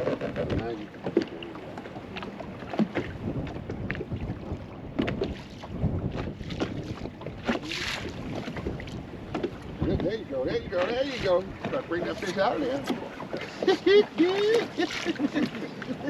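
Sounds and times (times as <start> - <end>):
water slapping boat hull: 0.0 - 16.0
wind buffeting microphone: 0.0 - 16.0.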